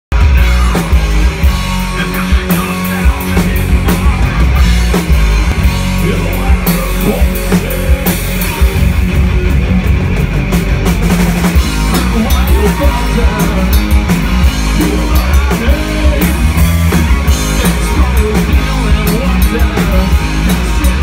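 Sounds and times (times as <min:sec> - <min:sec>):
drum and cymbal hits: 0:00.1 - 0:21.0
heavy rock band playing: 0:00.1 - 0:21.0.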